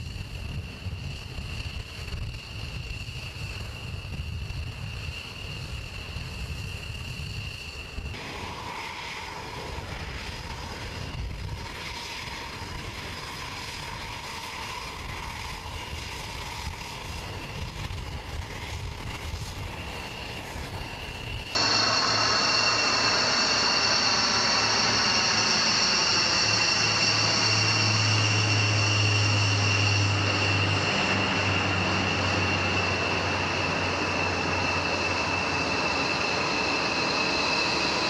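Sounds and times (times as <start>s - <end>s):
jet engine whine: 0.0s - 38.0s.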